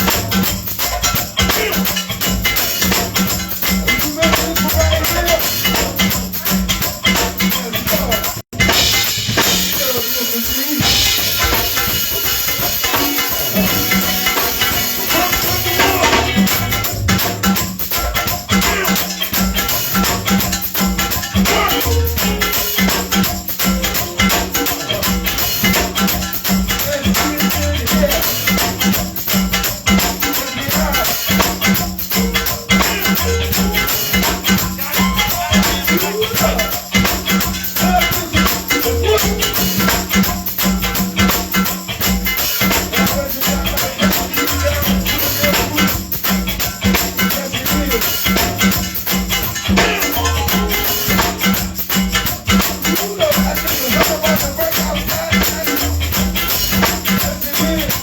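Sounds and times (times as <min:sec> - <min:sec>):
live band playing: 0:00.0 - 0:58.0
shaker or tambourine: 0:00.0 - 0:58.0.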